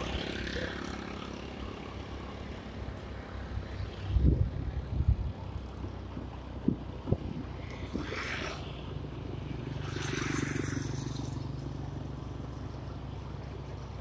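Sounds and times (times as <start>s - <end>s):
vehicle road noise: 0.0s - 14.0s.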